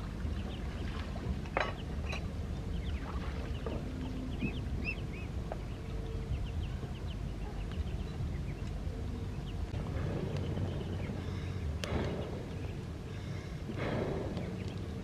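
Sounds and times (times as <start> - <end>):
ducklings peeping: 0.0 - 15.0
steady low rumble: 0.0 - 15.0.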